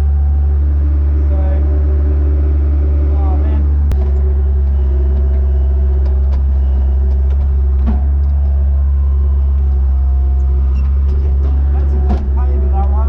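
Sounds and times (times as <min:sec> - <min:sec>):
loader engine running: 0:00.0 - 0:13.0.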